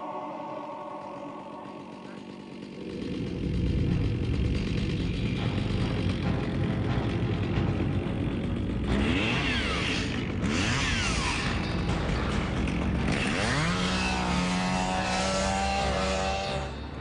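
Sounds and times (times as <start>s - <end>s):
chainsaw engine revving: 1.0s - 17.0s.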